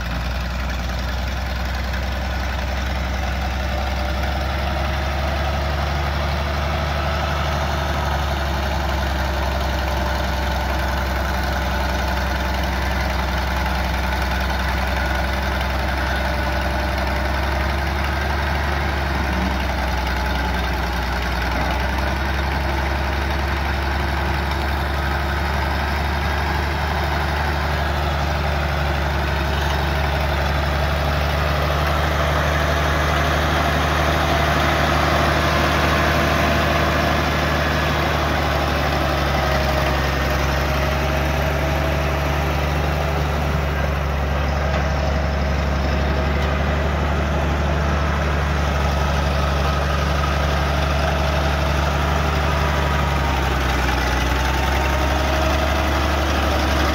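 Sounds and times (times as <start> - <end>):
tractor engine idling: 0.0 - 56.9.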